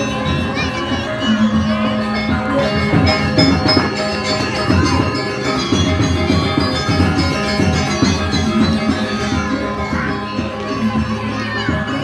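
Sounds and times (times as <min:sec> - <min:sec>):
drum beats: 0:00.0 - 0:12.0
metallophones ringing: 0:00.0 - 0:12.0.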